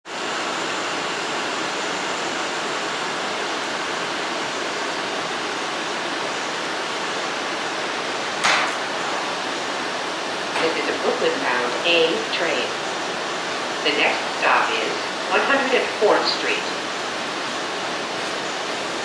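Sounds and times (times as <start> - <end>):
subway ventilation rushing hiss: 0.1 - 19.0.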